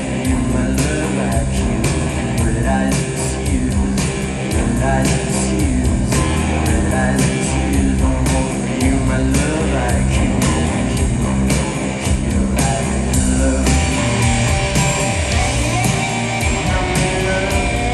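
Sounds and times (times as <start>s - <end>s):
bass guitar: 0.0s - 17.9s
drum and cymbal hits: 0.0s - 17.9s
electric guitars: 0.0s - 17.9s.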